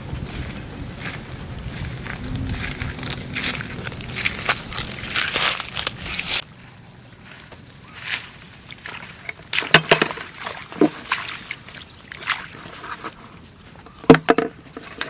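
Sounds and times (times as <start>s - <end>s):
rustling: 0.0s - 15.0s
splashing in muddy water: 0.0s - 15.0s.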